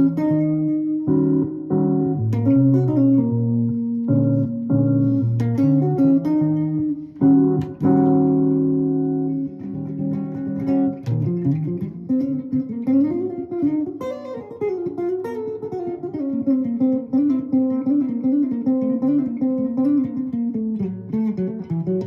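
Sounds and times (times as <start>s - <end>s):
guitar chord ringing: 0.0s - 22.0s
guitar single notes: 0.0s - 22.0s.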